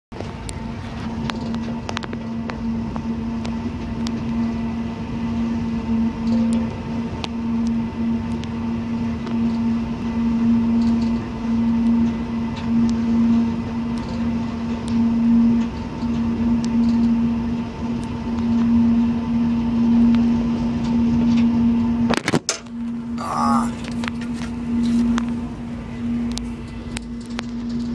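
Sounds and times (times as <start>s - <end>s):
diesel locomotive drone: 0.1s - 27.9s
train rumble: 0.1s - 27.9s.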